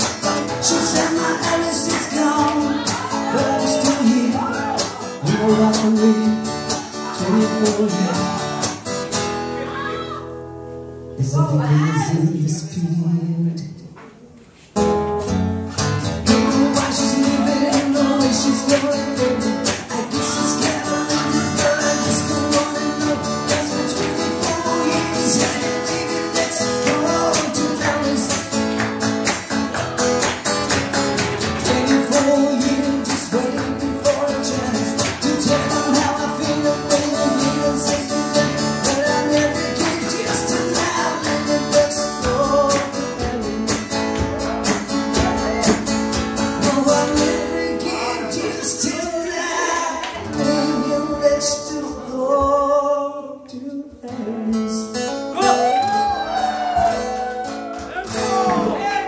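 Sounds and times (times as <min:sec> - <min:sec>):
acoustic guitar strumming: 0:00.0 - 0:12.2, 0:14.8 - 0:53.0, 0:54.0 - 0:59.0.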